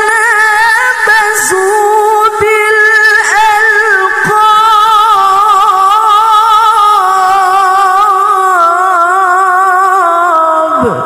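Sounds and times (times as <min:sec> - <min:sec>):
woman reciting melodically: 0:00.0 - 0:11.0.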